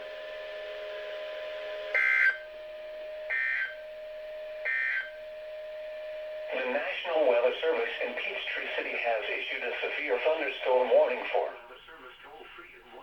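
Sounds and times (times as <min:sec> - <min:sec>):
faint steady tone: 0:00.0 - 0:13.0.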